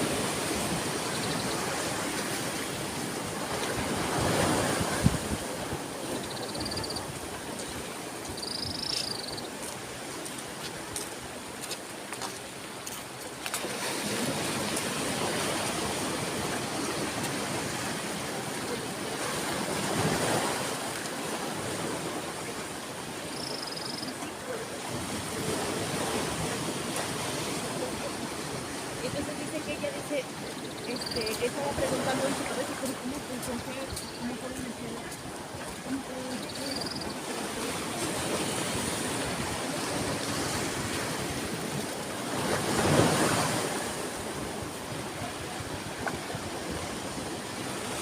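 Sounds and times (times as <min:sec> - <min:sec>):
ocean waves rushing: 0:00.0 - 0:48.0.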